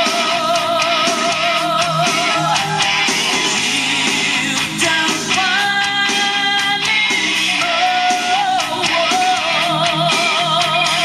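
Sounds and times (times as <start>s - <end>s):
song with guitar from cassette: 0.0s - 11.0s.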